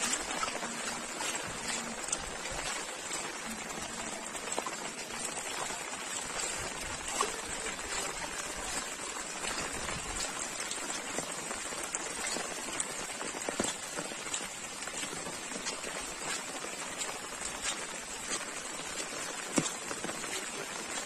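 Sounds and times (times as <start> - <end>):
floodwater running: 0.0 - 21.0
rain falling on wet ground: 0.0 - 21.0
water drops ticking: 0.0 - 21.0.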